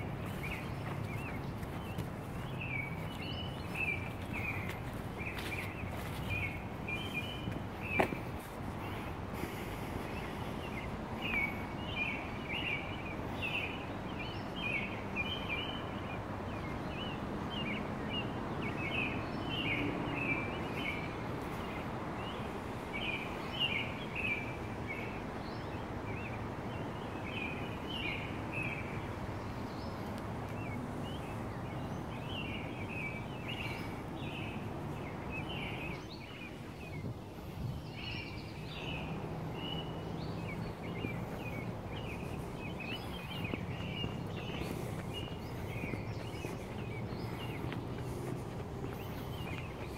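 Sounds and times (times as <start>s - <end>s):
outdoor background noise: 0.0s - 49.9s
songbirds chirping: 0.0s - 49.9s.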